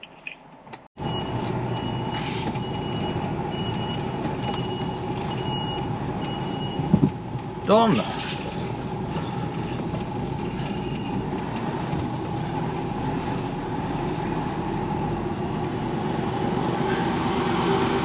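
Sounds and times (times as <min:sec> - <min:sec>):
road rumble: 0:00.0 - 0:18.0
truck engine running: 0:01.0 - 0:18.0.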